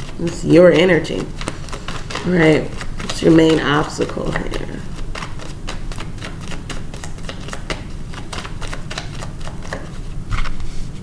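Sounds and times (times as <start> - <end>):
cards being shuffled: 0.0 - 10.8.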